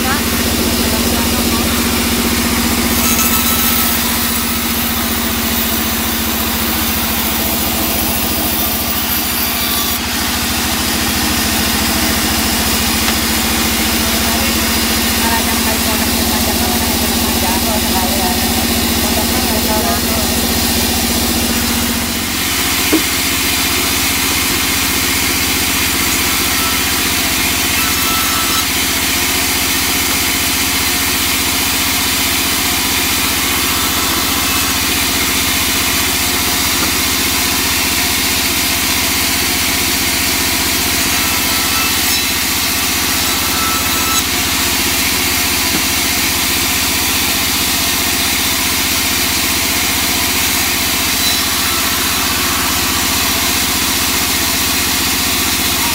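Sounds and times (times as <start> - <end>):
bandsaw cutting wood: 0.0 - 55.9.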